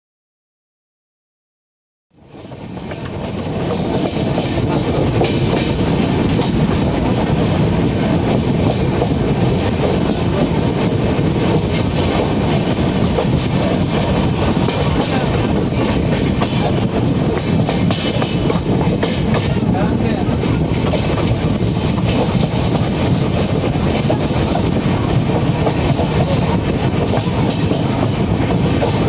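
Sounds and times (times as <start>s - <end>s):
train wheels clattering on rails: 2.2s - 29.0s.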